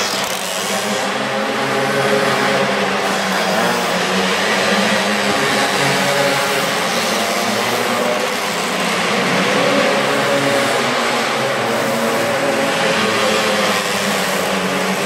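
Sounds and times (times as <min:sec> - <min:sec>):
dirt bike engines droning: 0:00.0 - 0:15.0.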